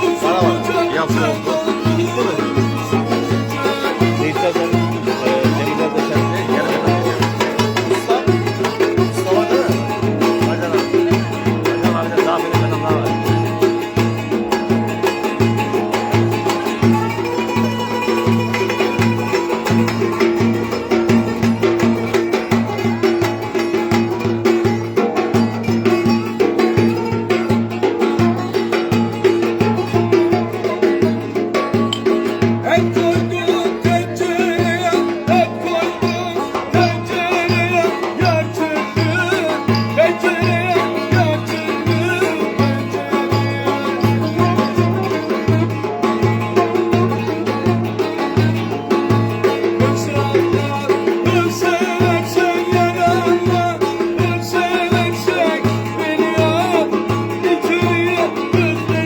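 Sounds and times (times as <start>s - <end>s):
drum beat: 0.0s - 59.0s
ornamented folk melody: 0.0s - 59.0s.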